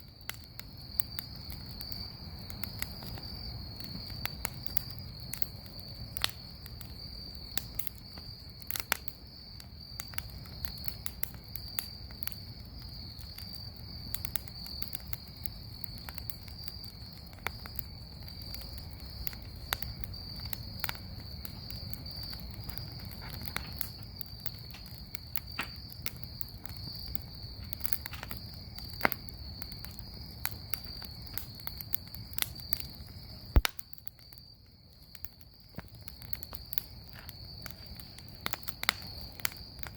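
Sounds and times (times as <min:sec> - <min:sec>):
bonfire crackling and popping: 0:00.0 - 0:39.9
high insect trill: 0:00.0 - 0:39.9.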